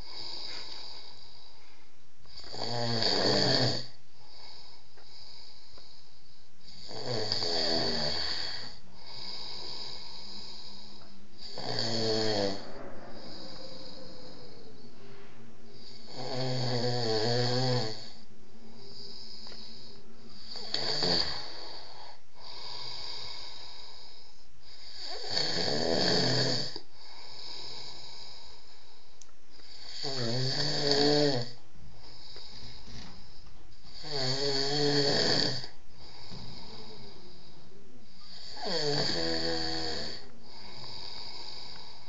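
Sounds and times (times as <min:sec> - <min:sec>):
man snoring: 0:00.0 - 0:01.6, 0:02.3 - 0:15.0, 0:15.7 - 0:28.9, 0:29.6 - 0:42.0.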